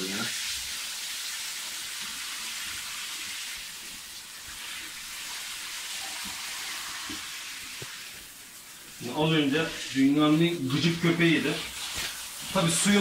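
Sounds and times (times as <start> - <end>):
shower head spraying water: 0.0 - 13.0.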